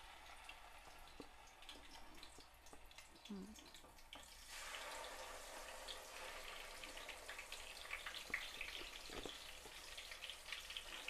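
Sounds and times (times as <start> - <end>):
oil sizzling in frying pan: 0.0 - 3.2, 4.0 - 11.0.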